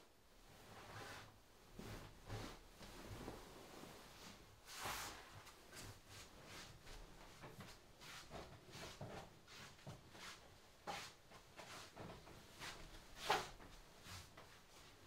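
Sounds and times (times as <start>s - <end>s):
fabric swishing: 0.4s - 15.0s
soft sliding footsteps: 0.4s - 15.0s.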